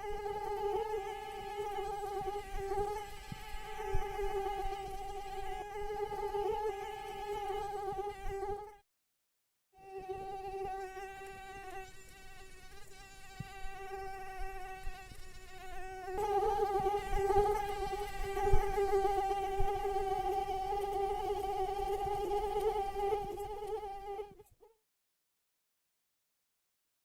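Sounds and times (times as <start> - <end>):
mosquito wingbeat whine: 0.0 - 8.8, 10.0 - 24.4.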